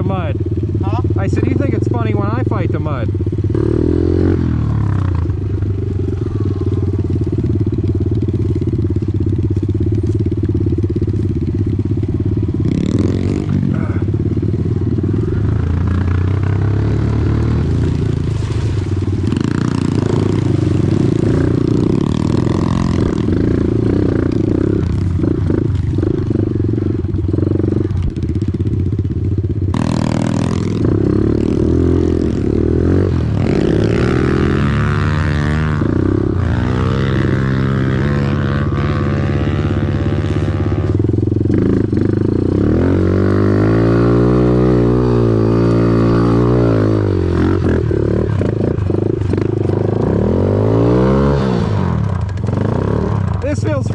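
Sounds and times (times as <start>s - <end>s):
off-road vehicle engine revving: 0.0s - 8.7s, 12.4s - 28.2s, 29.7s - 53.9s.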